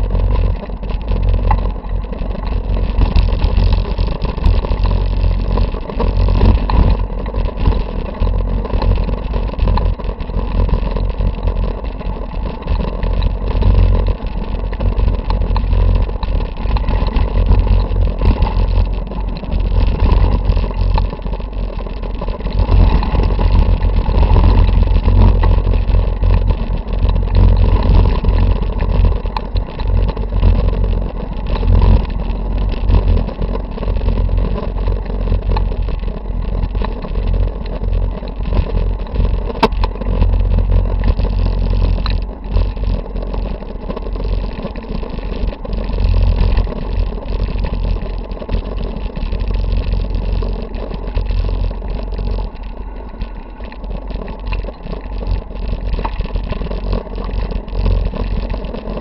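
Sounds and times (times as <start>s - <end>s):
bike tyres rumbling on gravel: 0.0s - 59.0s
small clicks and knocks: 0.0s - 59.0s.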